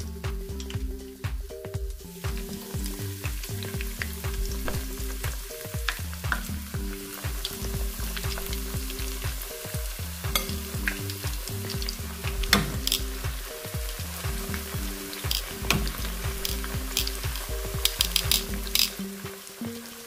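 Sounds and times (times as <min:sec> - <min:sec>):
deep-frying sizzle and crackles: 0:00.0 - 0:20.0.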